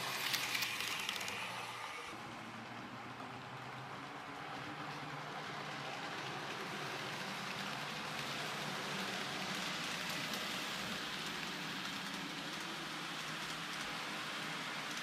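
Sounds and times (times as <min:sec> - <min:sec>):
model train wheels rattling on rails: 0:00.0 - 0:15.0.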